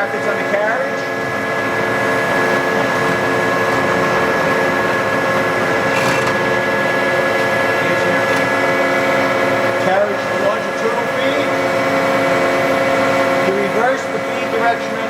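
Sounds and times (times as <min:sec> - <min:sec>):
lathe gearing hum: 0:00.0 - 0:15.0.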